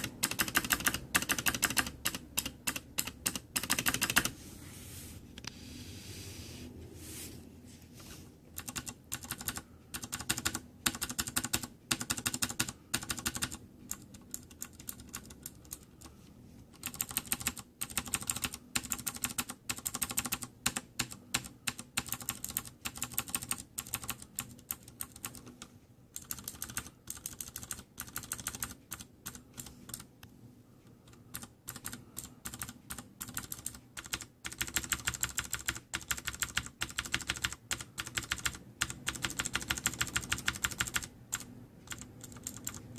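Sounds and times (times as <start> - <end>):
clicky keyboard typing: 0.0 - 4.3, 8.6 - 30.1, 31.0 - 42.9.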